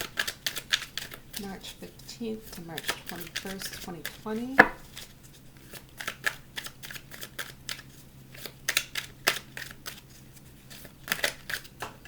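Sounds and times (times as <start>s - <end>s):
cards being shuffled: 0.0s - 1.5s, 2.5s - 12.0s.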